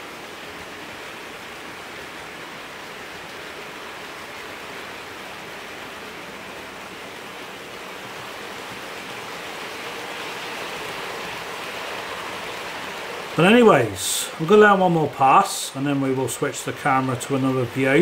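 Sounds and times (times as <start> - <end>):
model trains whirring on track: 0.0 - 18.0.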